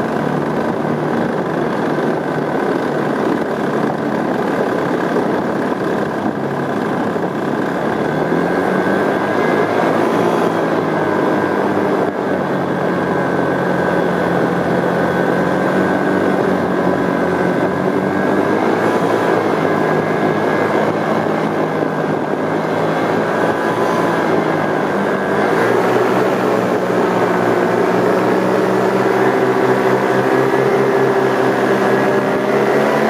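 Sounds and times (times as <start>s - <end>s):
two-stroke engine and propeller: 0.0s - 33.0s.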